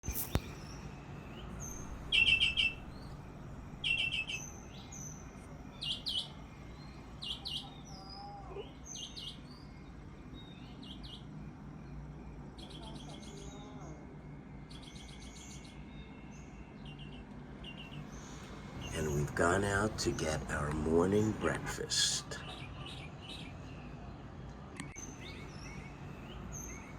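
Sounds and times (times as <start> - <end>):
birds chirping: 0.0 - 13.9, 14.6 - 26.9
distant city hum: 0.0 - 26.9.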